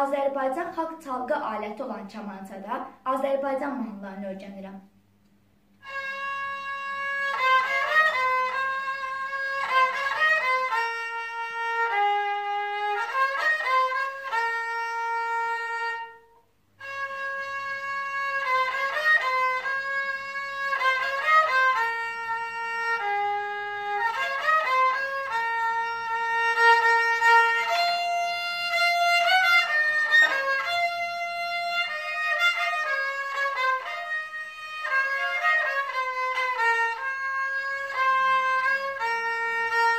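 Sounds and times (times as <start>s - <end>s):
bowed fiddle melody: 5.8s - 39.9s.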